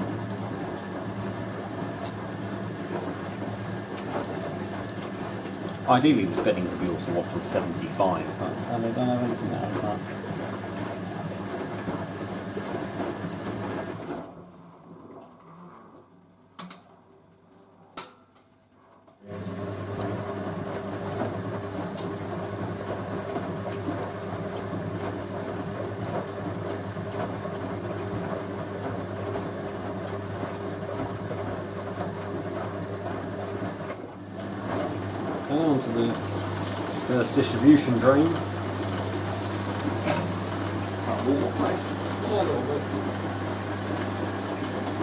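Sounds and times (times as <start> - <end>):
washing machine humming: 0.0 - 45.0.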